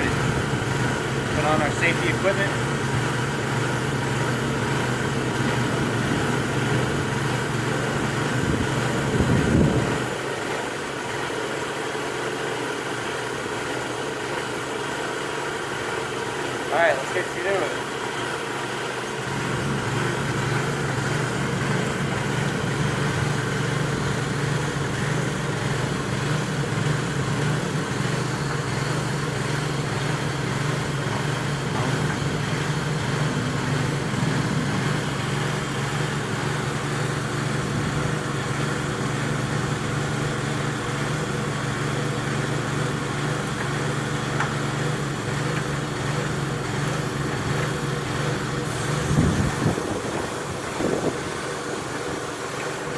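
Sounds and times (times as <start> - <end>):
air compressor humming: 0.0 - 52.9.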